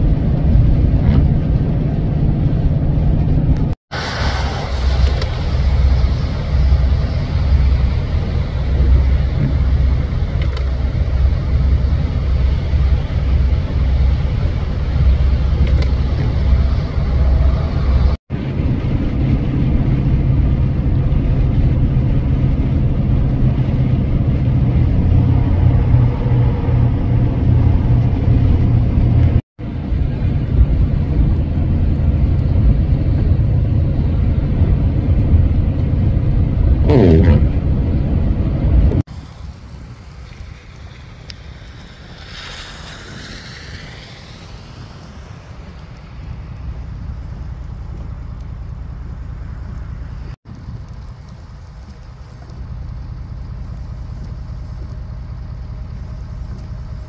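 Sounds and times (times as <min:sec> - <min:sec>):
road and tyre noise on slush: 0:00.0 - 0:57.0.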